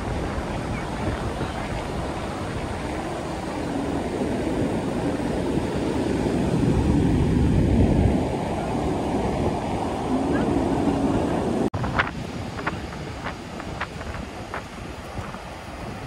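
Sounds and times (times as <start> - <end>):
surf breaking: 0.0 - 16.0
wind buffeting microphone: 0.0 - 16.0.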